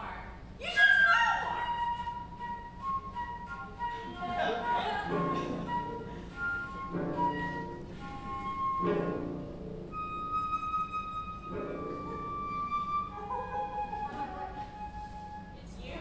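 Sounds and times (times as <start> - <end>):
flute playing: 0.9 - 16.0
low instrument clusters: 1.6 - 15.7.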